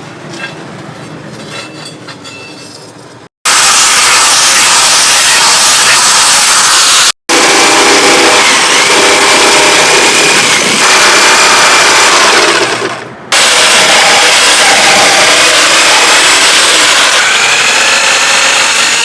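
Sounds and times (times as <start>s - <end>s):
electric grinder on steel: 3.5s - 19.0s.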